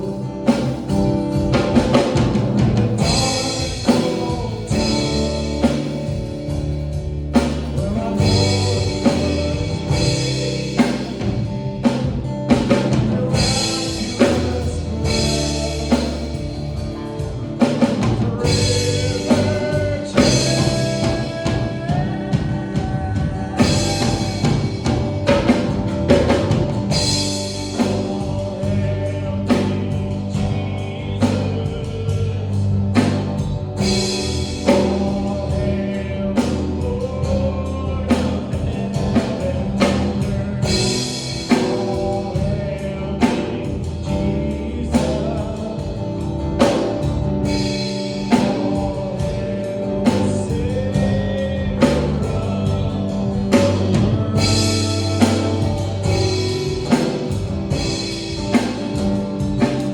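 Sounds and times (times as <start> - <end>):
gospel band with singers: 0.0 - 59.9.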